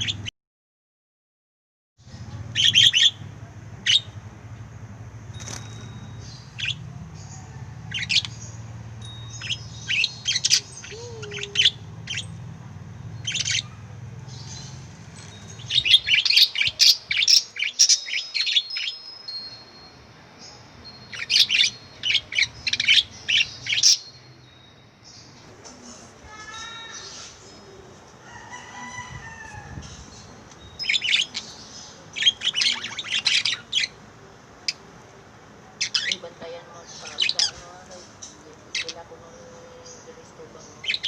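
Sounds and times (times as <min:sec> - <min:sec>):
lovebirds chirping: 0:00.0 - 0:00.3, 0:02.1 - 0:41.0.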